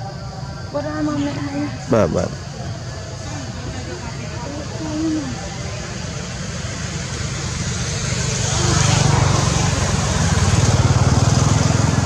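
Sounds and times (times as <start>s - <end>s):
engine pulsing drone: 0.0s - 12.0s.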